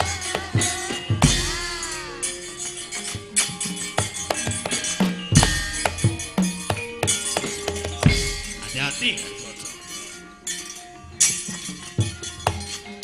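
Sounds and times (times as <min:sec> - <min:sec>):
clattering percussion: 0:00.0 - 0:13.0
held metallophone tones: 0:00.0 - 0:13.0.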